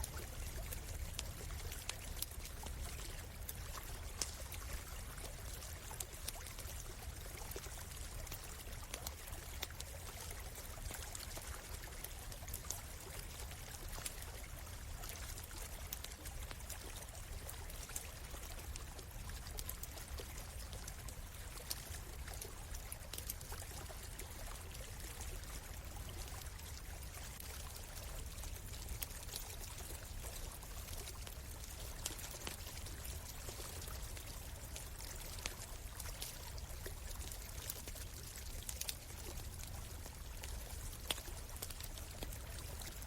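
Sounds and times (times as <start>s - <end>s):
campfire crackling and popping: 0.0s - 43.0s
stream running: 0.0s - 43.0s.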